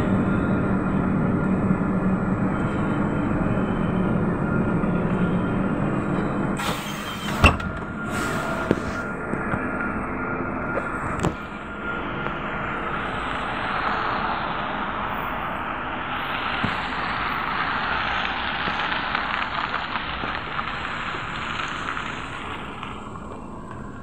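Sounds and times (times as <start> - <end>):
trolleybus rushing by: 0.0 - 24.0.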